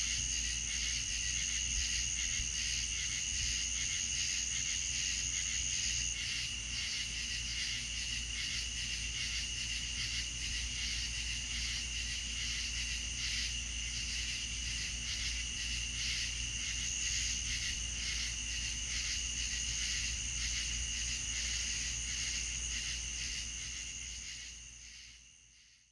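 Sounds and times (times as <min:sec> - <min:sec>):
crickets chirring: 0:00.0 - 0:25.7.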